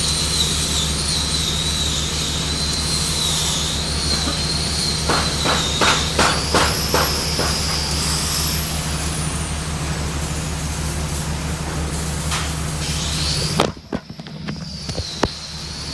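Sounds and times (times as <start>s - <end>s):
welding machine hum and whine: 0.0s - 15.9s.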